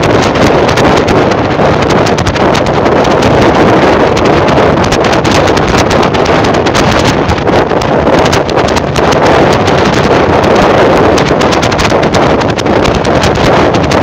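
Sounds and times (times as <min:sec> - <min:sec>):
vehicle running and tyre noise: 0:00.0 - 0:14.0
wind buffeting microphone: 0:00.0 - 0:14.0.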